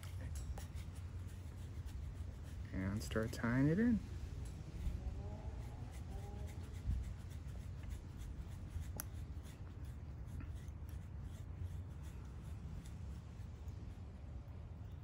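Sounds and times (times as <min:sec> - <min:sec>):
steady low rumble: 0:00.0 - 0:15.0
thread rubbing and soft ticks: 0:00.0 - 0:15.0.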